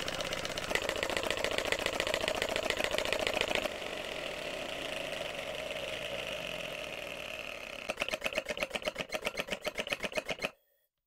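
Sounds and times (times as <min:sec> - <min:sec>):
air-powered model engine running: 0:00.0 - 0:10.5.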